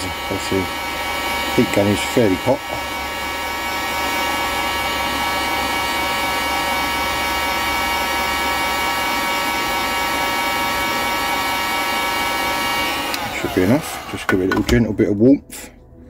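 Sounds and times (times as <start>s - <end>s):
hot air gun fan whine: 0.0s - 15.8s.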